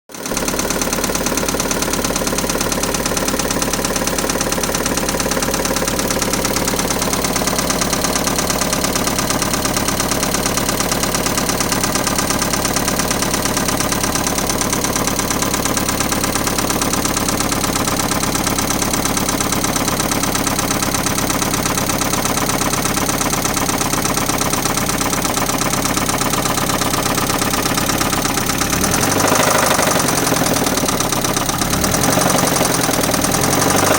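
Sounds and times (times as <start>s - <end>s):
car engine ticking: 0.1s - 33.9s.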